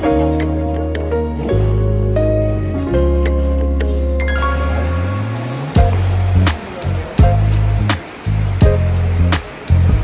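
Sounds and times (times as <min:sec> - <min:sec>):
melodic music with strong bass: 0:00.0 - 0:10.0.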